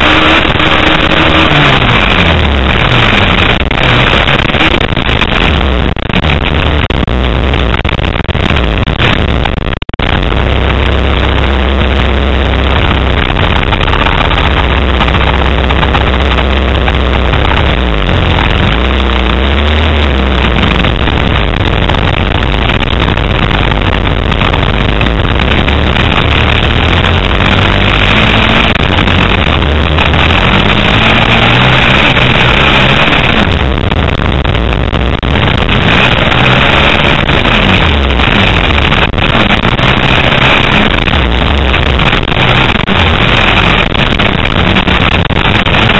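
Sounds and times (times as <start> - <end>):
dirt bike engine revving: 0.0 - 45.9
wind noise: 0.0 - 45.9.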